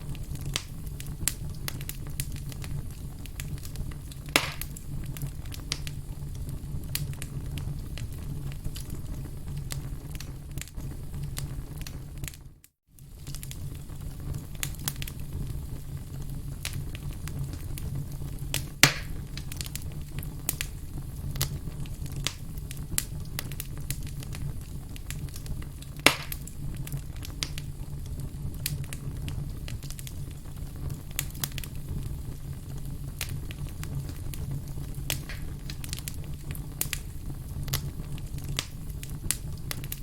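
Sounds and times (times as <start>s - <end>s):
sharp pops of fire: 0.0s - 12.4s, 13.0s - 40.0s
wood campfire crackling: 0.0s - 40.0s.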